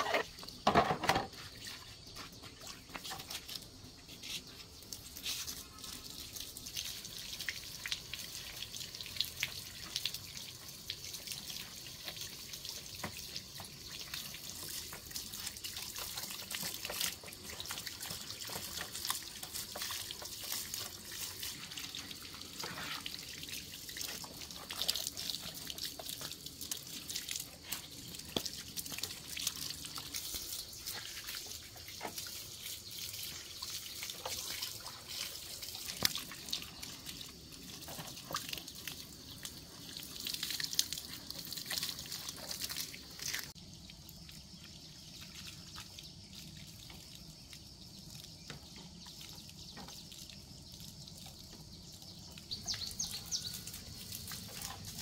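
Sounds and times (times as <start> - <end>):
water dripping and splashing: 0.0 - 55.0.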